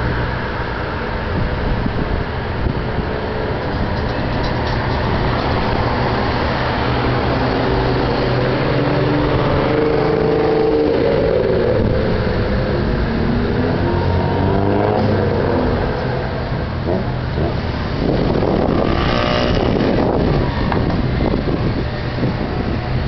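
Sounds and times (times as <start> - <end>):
cars driving past: 0.0 - 23.0
car engine accelerating: 3.6 - 23.0.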